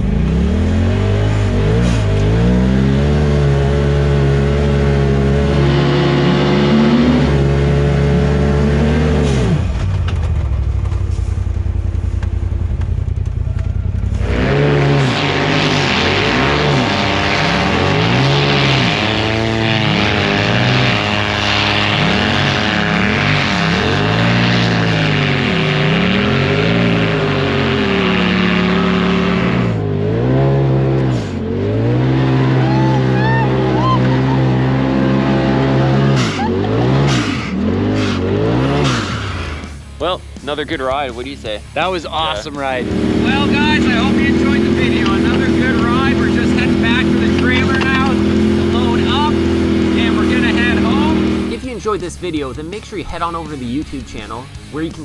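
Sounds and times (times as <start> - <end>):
engines revving: 0.0 - 55.0.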